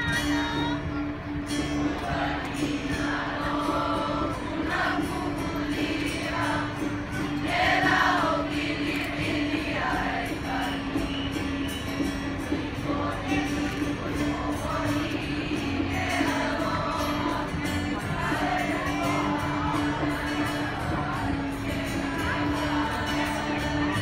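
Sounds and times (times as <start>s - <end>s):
group of young voices singing: 1.8s - 24.0s.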